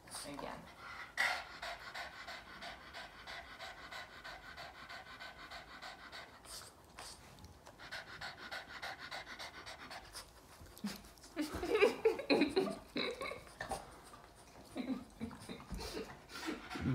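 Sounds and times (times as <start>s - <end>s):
dog panting rapidly: 0.0s - 16.9s.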